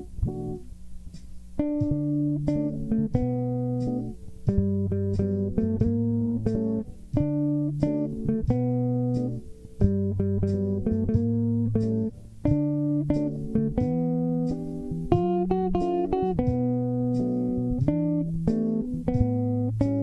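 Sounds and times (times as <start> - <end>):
plucked guitar notes: 0.0 - 0.7, 1.6 - 20.0
bass line: 1.6 - 20.0.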